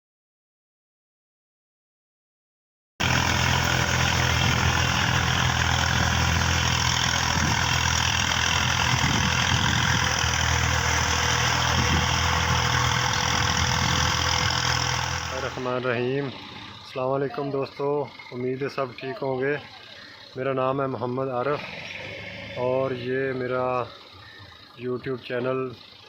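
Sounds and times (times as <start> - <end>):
tractor engine idling: 3.0 - 26.0.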